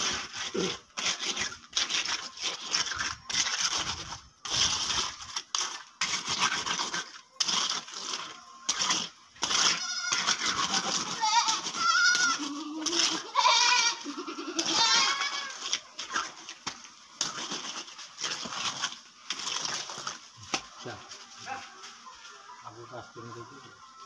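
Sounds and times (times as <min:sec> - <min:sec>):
trowel scraping wet concrete: 0:00.0 - 0:20.7.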